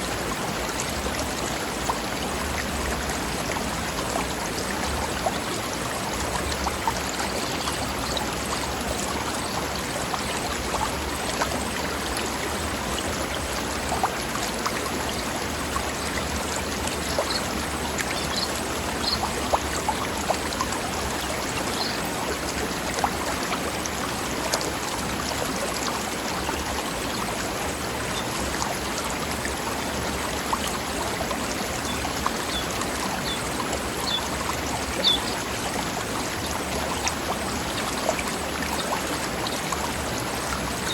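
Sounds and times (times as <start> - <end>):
stream babbling over rocks: 0.0 - 40.9
water splashes: 0.0 - 40.9.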